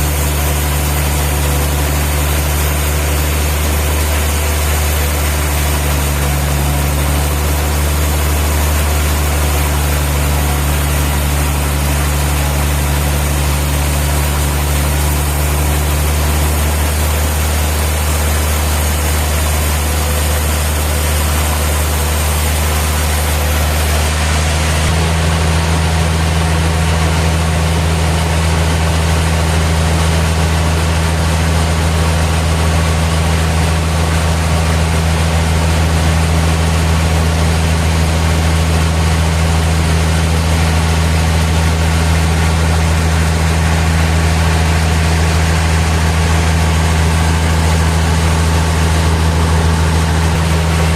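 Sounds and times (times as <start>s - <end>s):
heavy engine droning: 0.0s - 50.9s
low hum: 0.0s - 50.9s.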